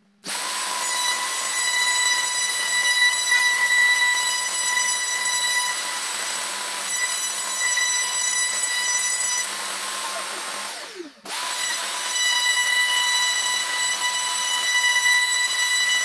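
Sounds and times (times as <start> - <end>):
router whining: 0.2 - 16.0.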